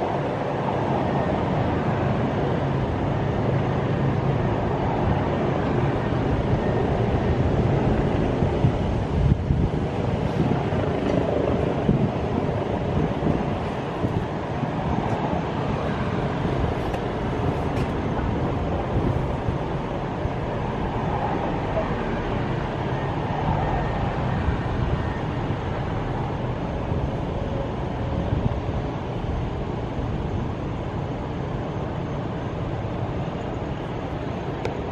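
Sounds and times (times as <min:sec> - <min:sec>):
helicopter rumbling: 0:00.0 - 0:34.9.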